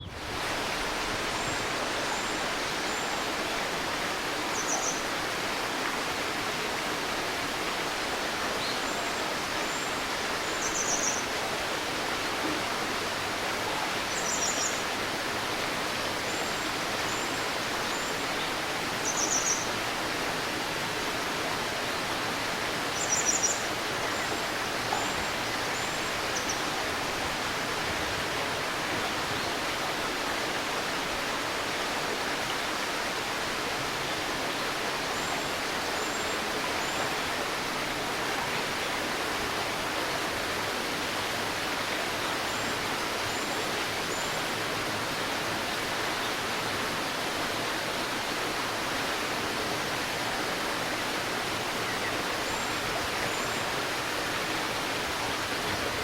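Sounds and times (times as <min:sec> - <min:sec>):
shallow river babbling: 0:00.0 - 0:56.0.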